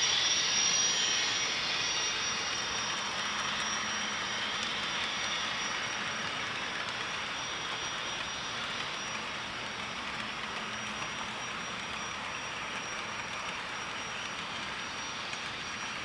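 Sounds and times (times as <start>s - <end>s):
model train wheels clattering: 0.0s - 16.0s
thin high whine: 0.0s - 16.0s.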